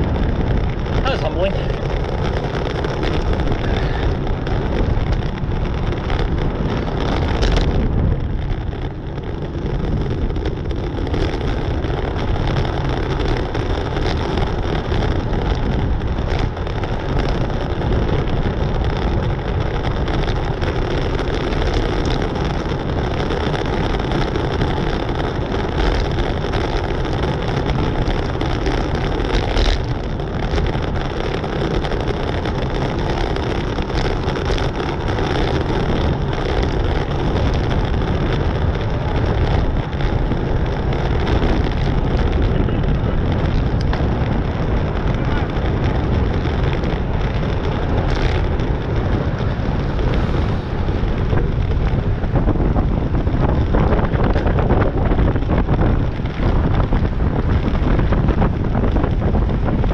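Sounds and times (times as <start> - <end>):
bicycle tyre noise on road: 0.0 - 59.9
wind rushing on microphone: 0.0 - 59.9.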